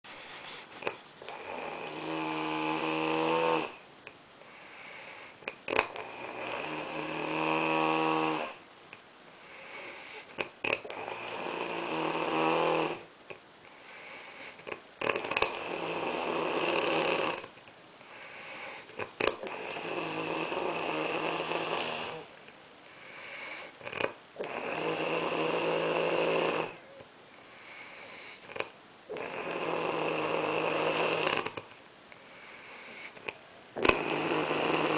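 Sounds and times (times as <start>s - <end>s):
person snoring: 0.4s - 3.8s, 4.5s - 8.6s, 9.4s - 13.1s, 13.7s - 22.3s, 22.9s - 26.9s, 27.5s - 31.6s, 32.3s - 34.9s.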